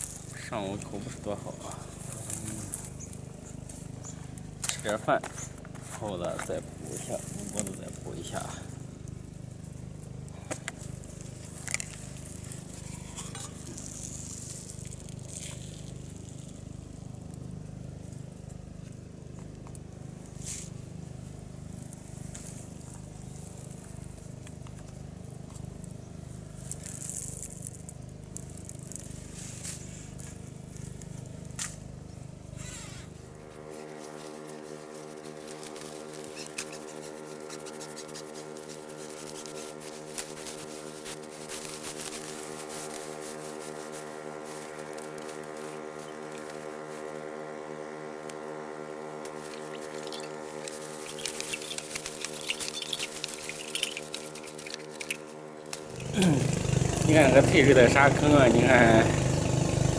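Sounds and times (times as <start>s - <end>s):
engine-driven water pump: 0.0s - 59.9s.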